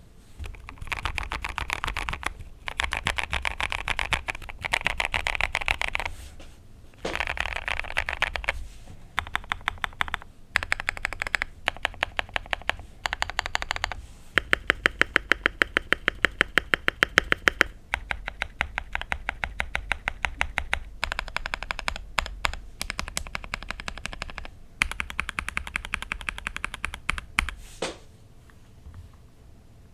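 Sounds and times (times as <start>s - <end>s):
mechanical keyboard typing: 0.4s - 6.1s, 7.0s - 8.6s, 9.2s - 27.6s.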